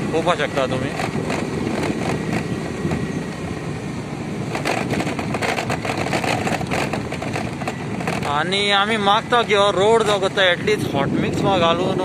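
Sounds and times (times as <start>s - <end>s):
vehicle rumbling on dirt road: 0.0s - 12.0s.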